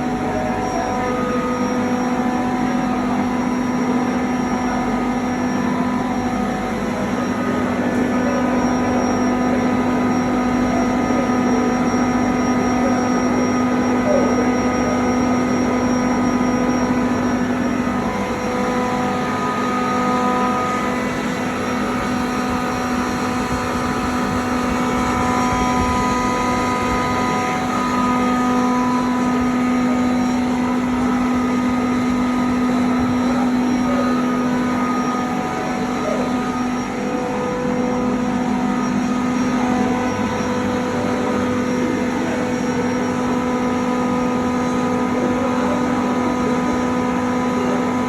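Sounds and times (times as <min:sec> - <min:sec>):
faint steady whine tones: 0:00.0 - 0:48.0
refrigeration compressor droning: 0:00.0 - 0:48.0.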